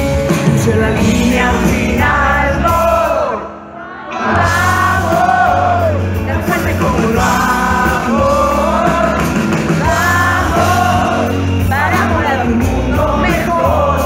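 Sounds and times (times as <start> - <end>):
bass line: 0.0 - 3.4, 4.4 - 14.0
live band playing: 0.0 - 14.0
person singing lead vocal: 0.0 - 14.0.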